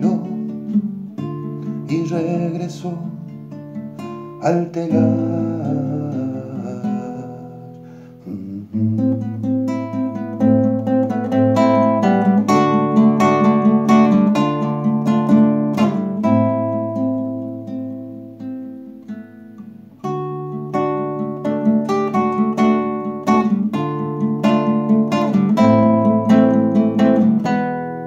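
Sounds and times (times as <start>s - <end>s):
classical guitar melody: 0.0s - 28.0s.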